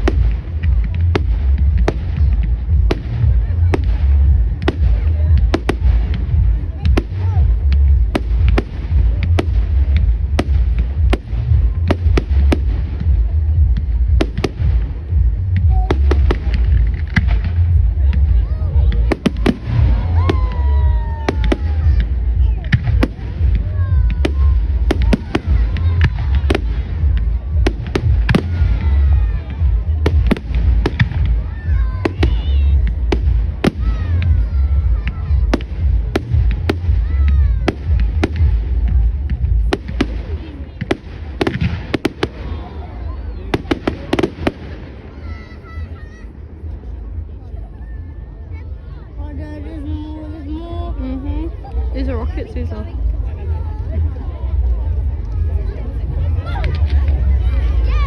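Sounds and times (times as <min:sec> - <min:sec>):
fireworks bangs and cracks: 0:00.0 - 0:47.0
low rumble: 0:00.0 - 0:58.0.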